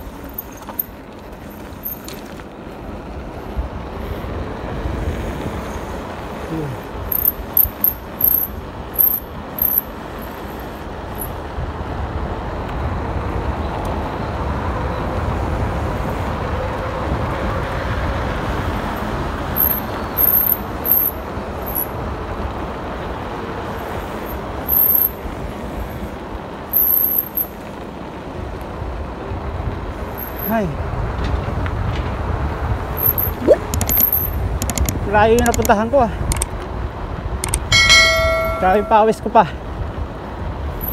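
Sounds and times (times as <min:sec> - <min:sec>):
bike tyres on asphalt: 0:00.0 - 0:40.9.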